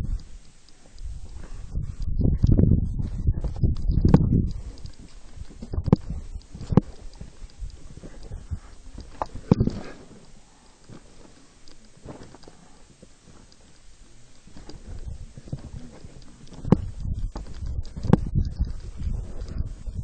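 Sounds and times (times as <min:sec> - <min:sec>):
low rumble: 0:00.0 - 0:10.6, 0:13.9 - 0:20.0.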